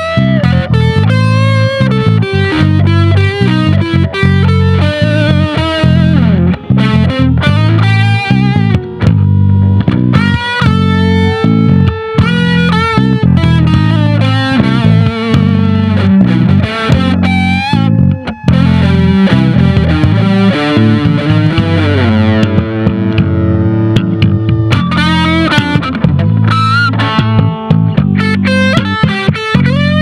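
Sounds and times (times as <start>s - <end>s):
distorted electric guitar lead: 0.0s - 30.0s
low bass line: 0.0s - 30.0s.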